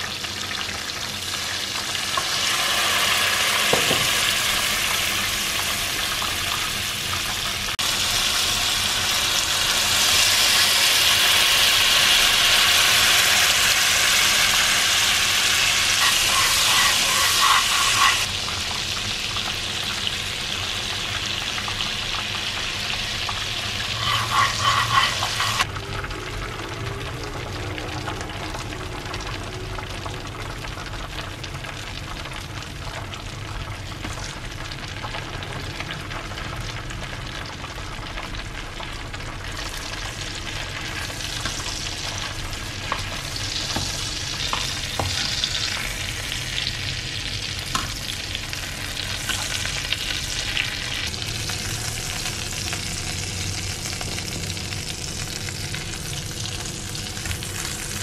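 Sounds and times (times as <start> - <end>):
chicken sizzling in hot pans: 0.0 - 58.0.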